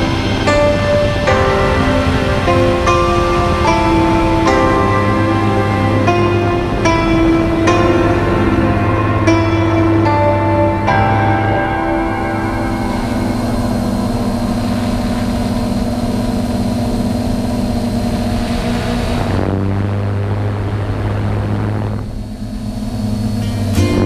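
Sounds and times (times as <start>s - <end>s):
drone propellers buzzing: 0.0s - 24.0s
wind rush: 0.0s - 24.0s.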